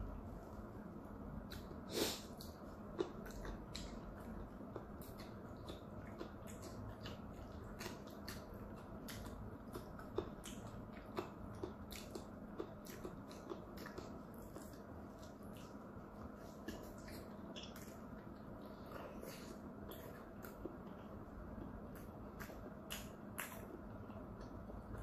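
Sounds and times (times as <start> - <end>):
faint steady hum: 0.0 - 25.0
mouth chewing soft food: 1.3 - 25.0.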